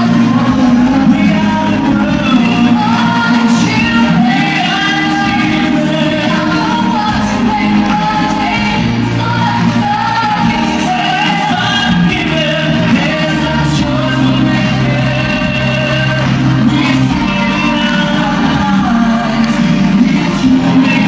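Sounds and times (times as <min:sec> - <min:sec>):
loud backing music: 0:00.0 - 0:21.0
people singing pop song live: 0:00.0 - 0:21.0.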